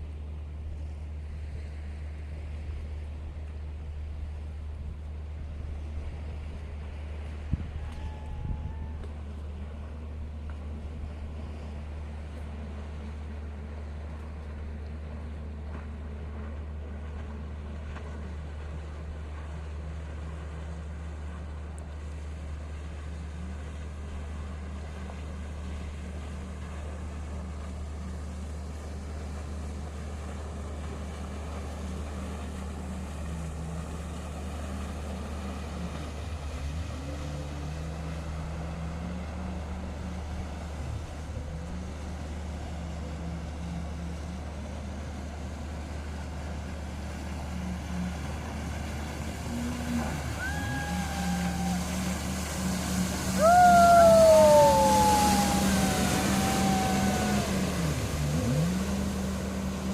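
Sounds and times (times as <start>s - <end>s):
jet ski engine: 0.0s - 59.9s.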